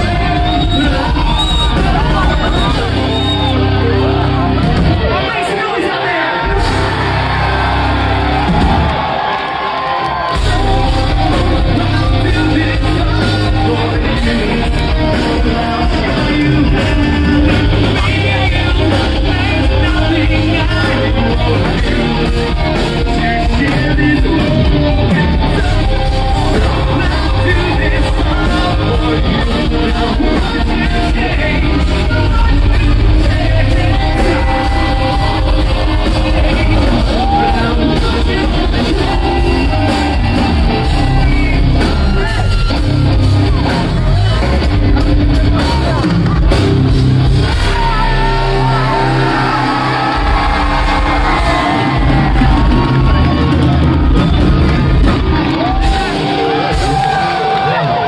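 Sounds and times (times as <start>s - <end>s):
electric guitars: 0.0s - 58.0s
live rock band playing: 0.0s - 58.0s
singer yelling and singing: 0.0s - 58.0s.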